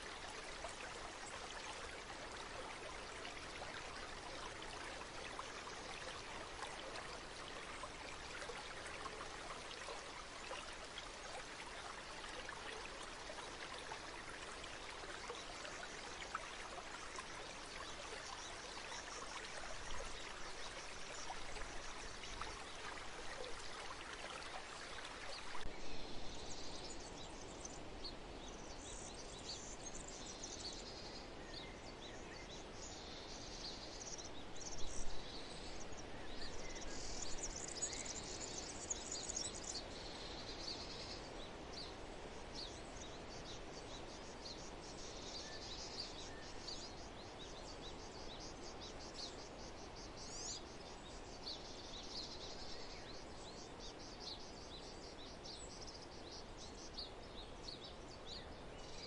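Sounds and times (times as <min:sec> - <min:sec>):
stream running: 0:00.0 - 0:27.8, 0:28.4 - 0:59.0
faint hiss: 0:00.0 - 0:59.0.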